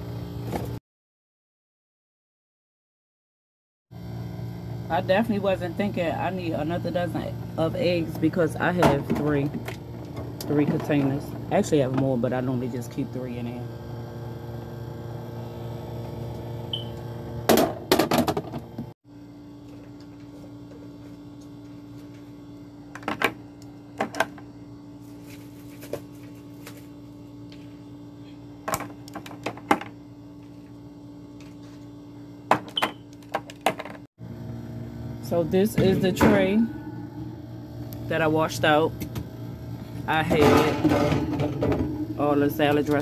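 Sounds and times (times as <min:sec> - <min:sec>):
steady hum: 0:04.0 - 0:43.0.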